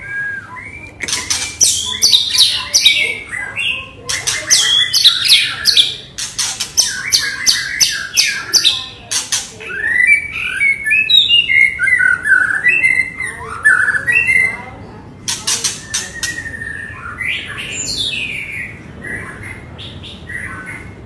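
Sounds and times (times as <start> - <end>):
bird singing: 0.0 - 21.0.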